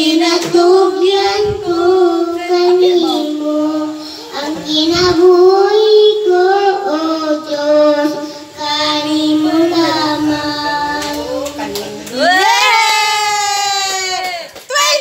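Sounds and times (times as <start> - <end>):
girl singing into a microphone: 0.0 - 12.3.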